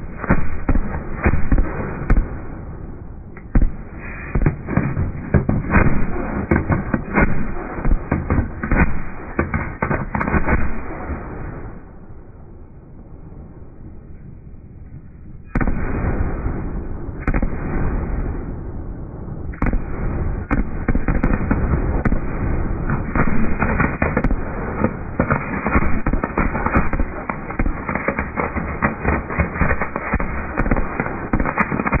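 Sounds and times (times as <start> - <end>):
loud firework bangs: 0.0 - 2.8, 3.4 - 11.8, 15.5 - 18.6, 19.4 - 32.0
rapid firework bangs and crackles: 0.0 - 11.8, 15.5 - 18.5, 19.4 - 32.0.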